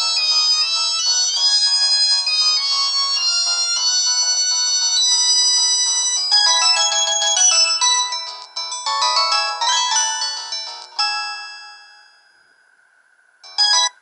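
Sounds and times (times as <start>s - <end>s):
mobile phone ringtone melody: 0.0s - 12.6s, 13.4s - 14.0s.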